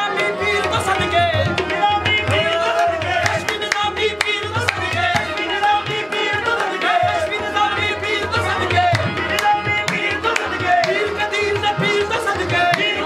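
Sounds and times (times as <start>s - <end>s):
tabla beat: 0.0s - 13.0s.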